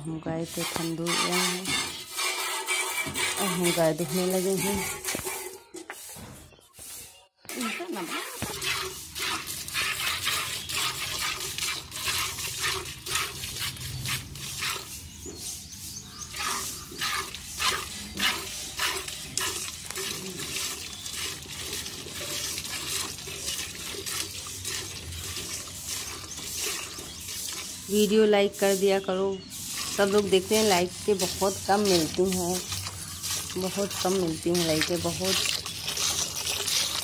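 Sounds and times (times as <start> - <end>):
milk squirting into metal pail: 0.4 - 5.6, 7.5 - 15.1, 16.2 - 28.9, 29.5 - 37.0.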